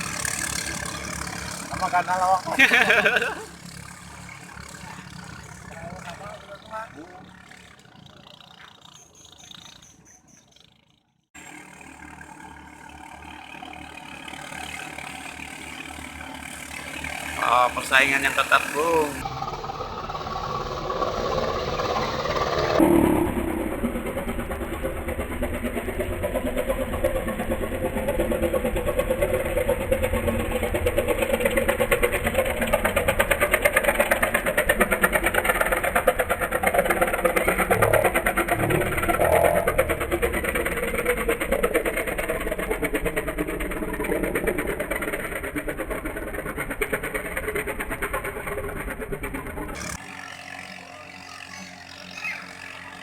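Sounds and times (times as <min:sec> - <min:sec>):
longtail boat engine running fast: 0:00.0 - 0:53.0.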